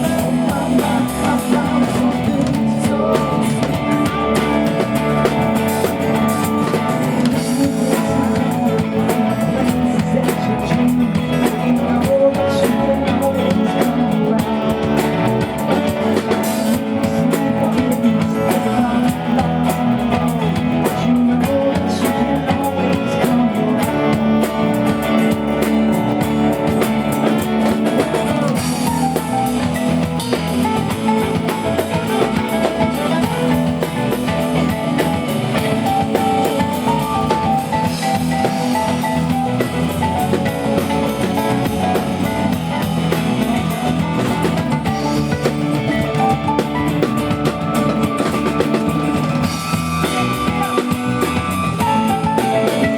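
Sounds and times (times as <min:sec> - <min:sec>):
drum kit: 0:00.0 - 0:52.9
guitar: 0:00.0 - 0:52.9
live band playing: 0:00.0 - 0:52.9.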